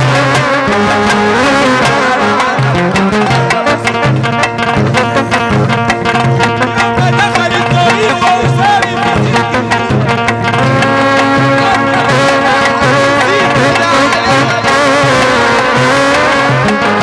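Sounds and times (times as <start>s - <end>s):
hand drums beating: 0.0s - 17.0s
melodic instrument line: 0.0s - 17.0s.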